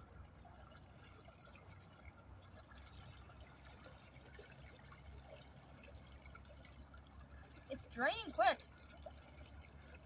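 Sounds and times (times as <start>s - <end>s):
water trickling through drain grate: 0.0s - 10.0s.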